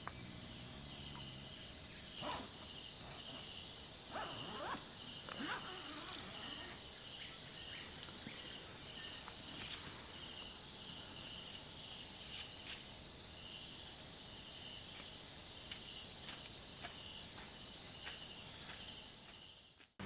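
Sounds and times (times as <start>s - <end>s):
insects trilling: 0.0s - 19.8s
insect chirps pulsing: 0.0s - 20.0s.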